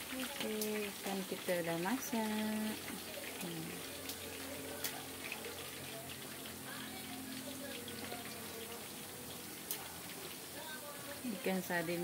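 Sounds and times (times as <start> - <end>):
food cooking hiss: 0.0 - 12.0.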